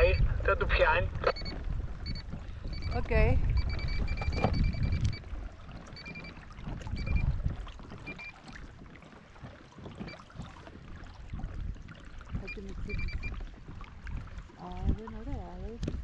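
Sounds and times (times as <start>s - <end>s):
wind gusting on microphone: 0.0s - 8.9s, 9.9s - 16.0s
water lapping against kayak: 0.0s - 16.0s.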